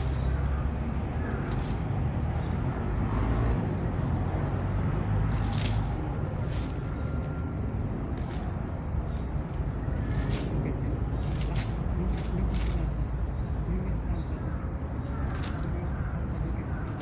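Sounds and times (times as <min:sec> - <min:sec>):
high thin bird calls: 0:00.0 - 0:02.9, 0:05.1 - 0:17.0
steady low rumble: 0:00.0 - 0:17.0.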